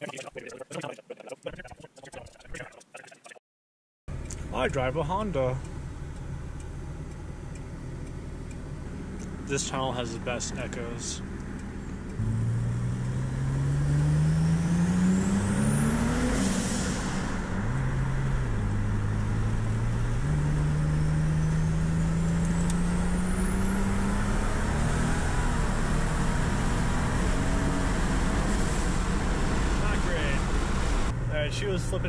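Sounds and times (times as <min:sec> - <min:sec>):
car engine accelerating: 0:04.1 - 0:32.0.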